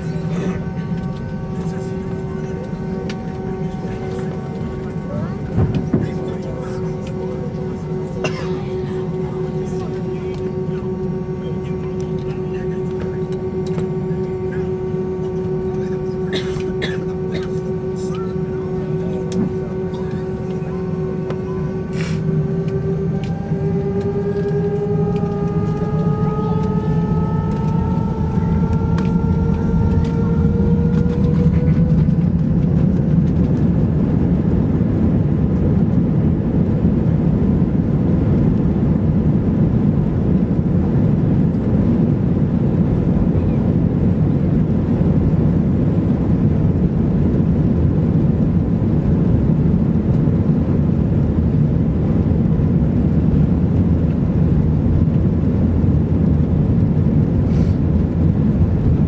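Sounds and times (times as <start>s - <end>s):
jet engine whine: 0.0s - 59.0s
jet engines roaring: 0.0s - 59.0s.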